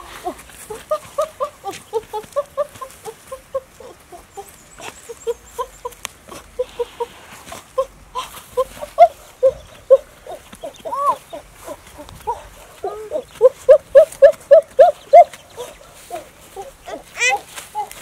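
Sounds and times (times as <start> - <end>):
quail calling: 0.0 - 18.0.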